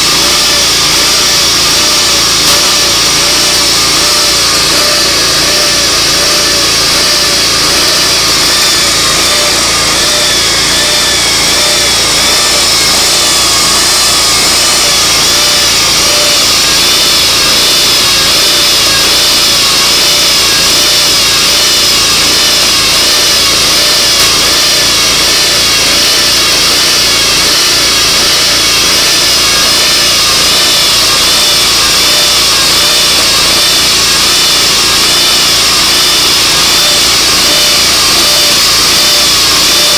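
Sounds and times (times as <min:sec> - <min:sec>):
sawmill running with wavering whine: 0:00.0 - 0:39.9.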